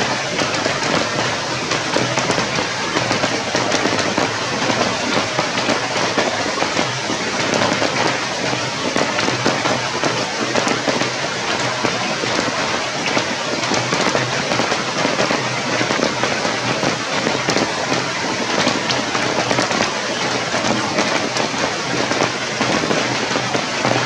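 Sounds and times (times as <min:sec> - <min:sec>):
sharp raindrop ticks: 0:00.0 - 0:24.0
steady rain falling: 0:00.0 - 0:24.0.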